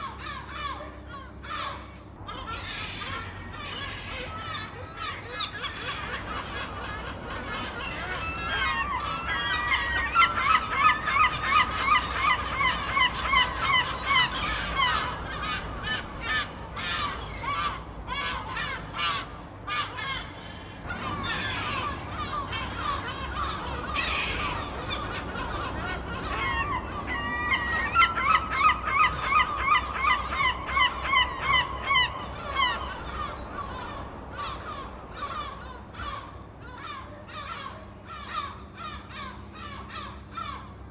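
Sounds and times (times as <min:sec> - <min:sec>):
seagulls squawking: 0:00.0 - 0:40.9.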